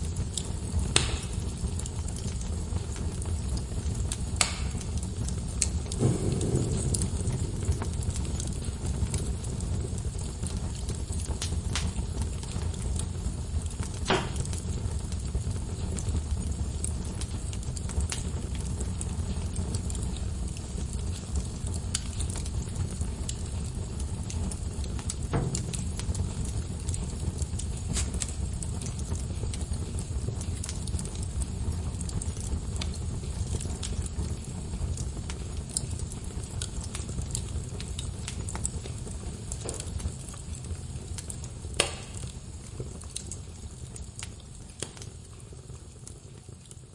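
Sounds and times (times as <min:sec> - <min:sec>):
log fire crackling: 0:00.0 - 0:46.9
sharp pops from fire: 0:00.0 - 0:46.9.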